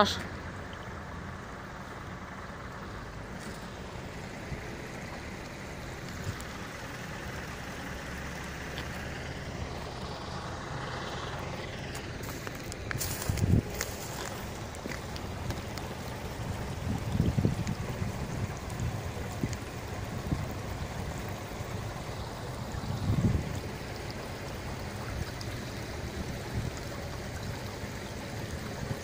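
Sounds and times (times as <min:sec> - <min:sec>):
shallow river flowing: 0:00.0 - 0:29.0.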